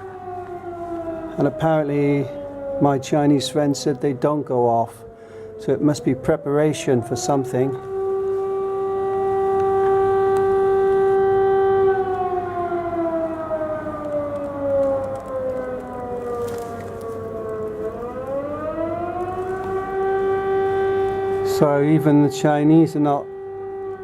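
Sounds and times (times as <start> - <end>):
air raid siren wailing: 0.0 - 24.0.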